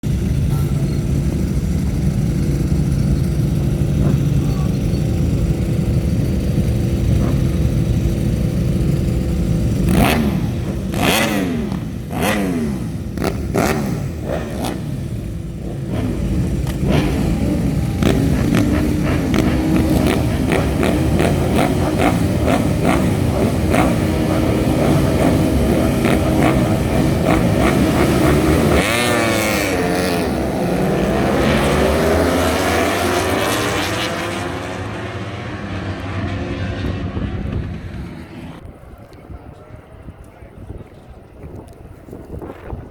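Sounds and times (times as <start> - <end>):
racing motorcycles accelerating: 0.0 - 39.3.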